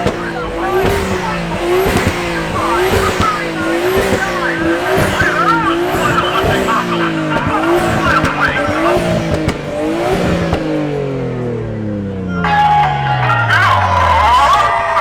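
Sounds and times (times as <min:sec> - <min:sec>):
car engine revving hard: 0:00.0 - 0:15.0
tires squealing: 0:00.0 - 0:15.0.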